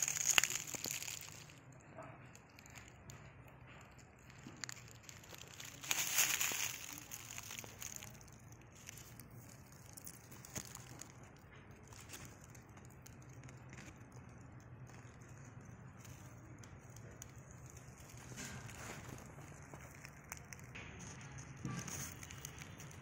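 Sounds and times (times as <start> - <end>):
dry leaves rustling: 0.0 - 1.6, 3.8 - 23.0.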